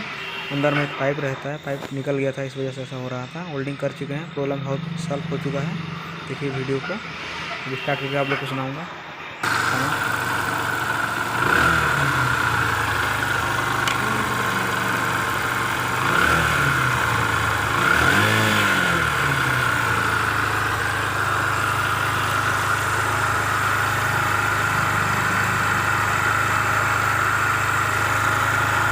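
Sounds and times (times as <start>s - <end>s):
motorcycle engine idling: 3.0s - 7.6s, 9.4s - 28.9s.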